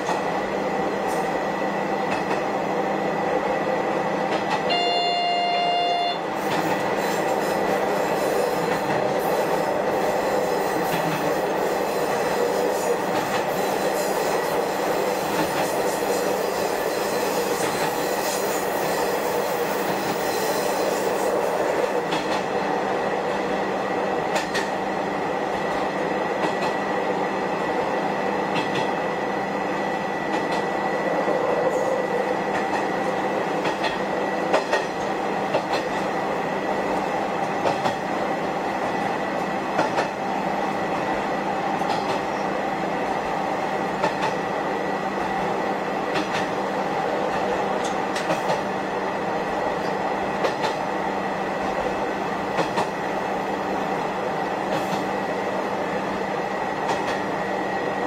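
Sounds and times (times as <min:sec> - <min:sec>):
railcar engine drone: 0:00.0 - 0:58.0.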